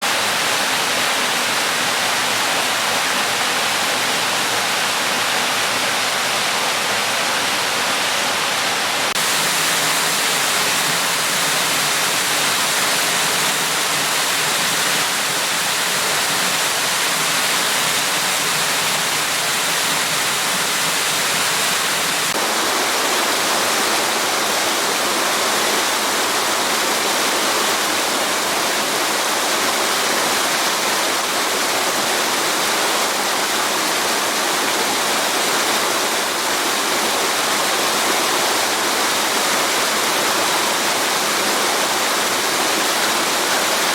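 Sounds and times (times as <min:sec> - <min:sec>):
waterfall pouring and splashing: 0:00.0 - 0:43.9.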